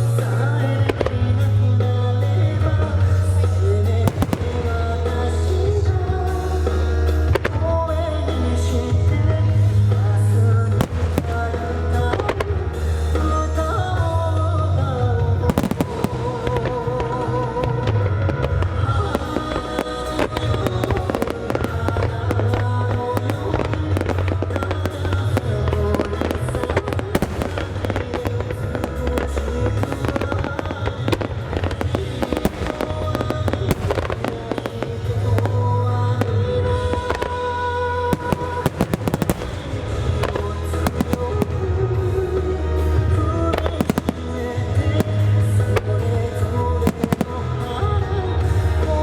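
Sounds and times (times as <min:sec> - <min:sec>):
fireworks bursting and crackling: 0:00.0 - 0:49.0
loud recorded music: 0:00.0 - 0:49.0.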